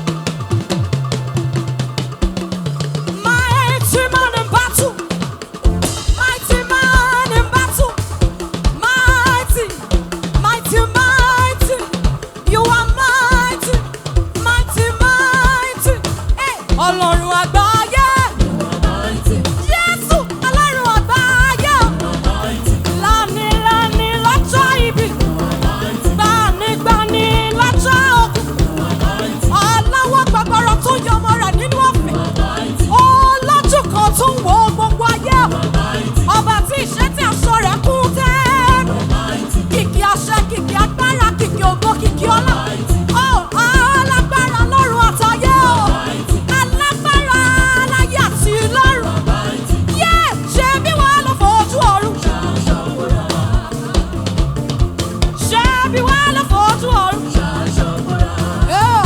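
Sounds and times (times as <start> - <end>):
live gospel music: 0.0 - 59.0
drum kit dance beat: 2.1 - 59.0
person singing: 3.2 - 54.5, 55.4 - 59.0.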